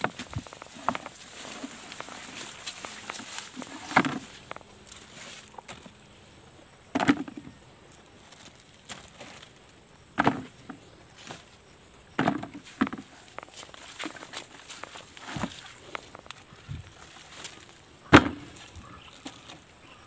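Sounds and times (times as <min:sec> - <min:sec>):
leaves and vines rustling: 0:00.0 - 0:11.8, 0:12.5 - 0:20.0.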